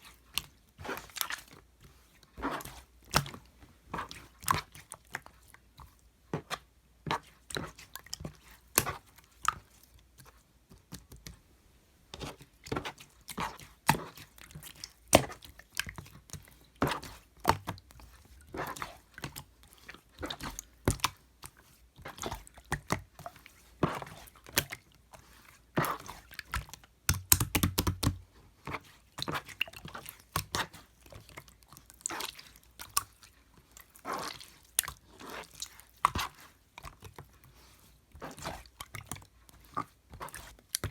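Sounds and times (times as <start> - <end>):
hands squishing slime: 0.0 - 11.4, 12.1 - 40.9.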